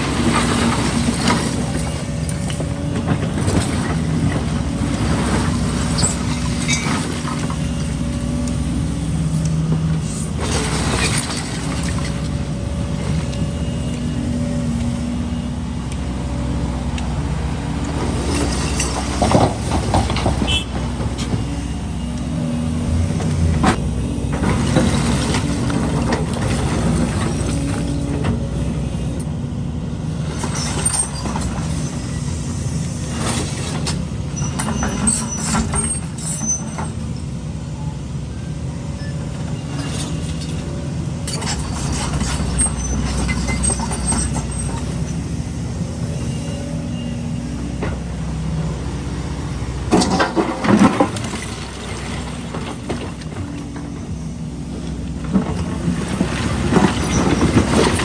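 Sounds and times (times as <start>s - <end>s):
diesel construction machinery running: 0.0s - 58.0s.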